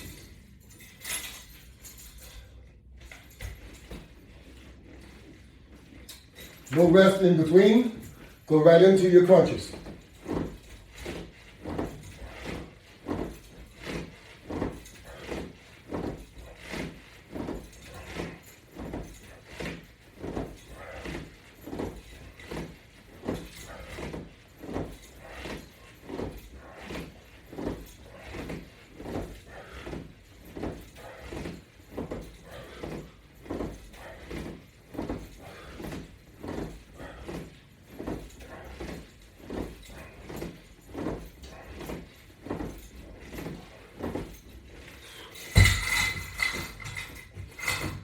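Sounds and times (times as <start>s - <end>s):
rhythmic soft exercise sounds: 0.0s - 48.0s.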